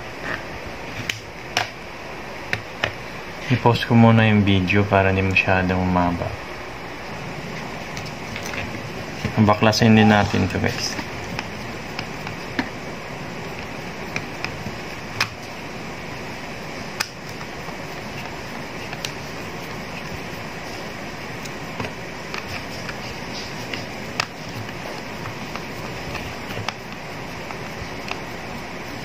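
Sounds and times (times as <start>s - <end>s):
steady background noise: 0.0s - 29.0s.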